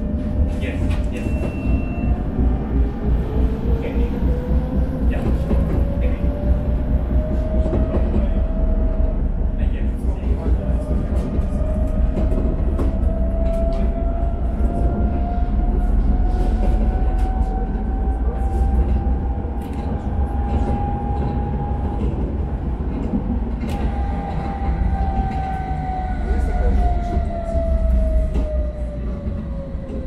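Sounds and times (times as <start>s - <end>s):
tram rumble: 0.0s - 30.0s.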